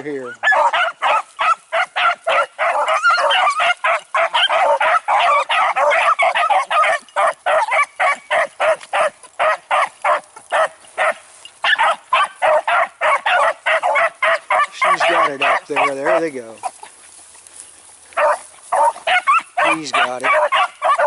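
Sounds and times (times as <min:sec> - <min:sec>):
dogs baying: 0:00.0 - 0:21.0.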